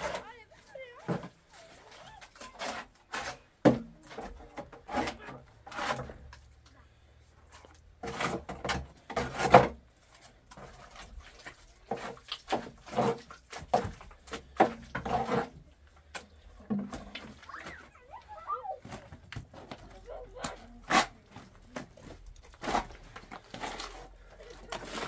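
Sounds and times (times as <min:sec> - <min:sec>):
knocks and scrapes: 0:00.0 - 0:25.0.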